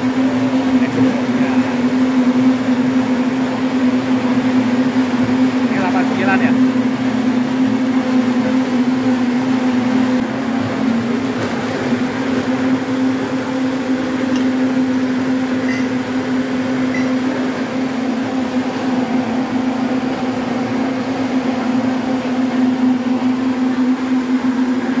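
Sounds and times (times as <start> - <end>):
electric blender running: 0.0 - 25.0.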